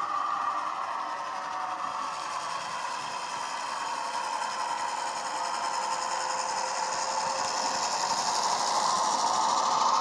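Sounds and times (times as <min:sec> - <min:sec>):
model diesel engine sound: 0:00.0 - 0:10.0
model train running on track: 0:00.0 - 0:10.0.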